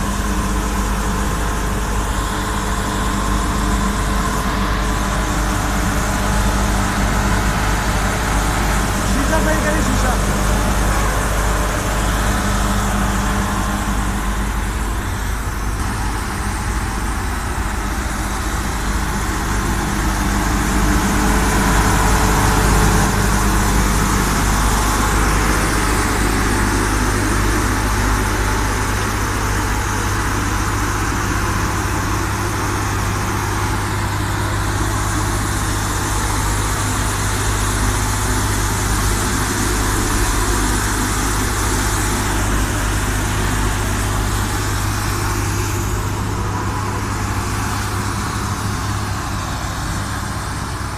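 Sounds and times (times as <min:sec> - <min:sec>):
diesel engine hum: 0:00.0 - 0:50.9.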